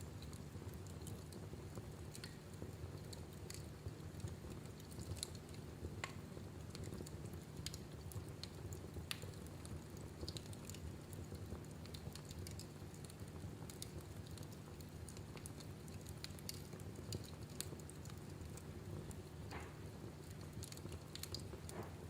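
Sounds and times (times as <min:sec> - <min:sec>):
low steady hum: 0:00.0 - 0:22.0
wood fire crackling: 0:00.0 - 0:22.0.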